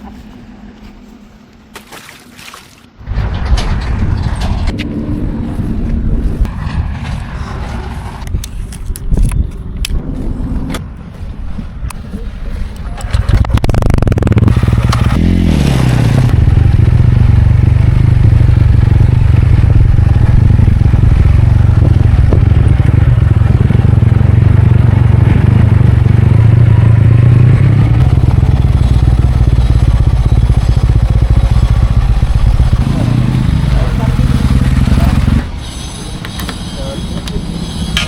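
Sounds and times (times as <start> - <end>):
tractor engine running: 3.0 - 38.0.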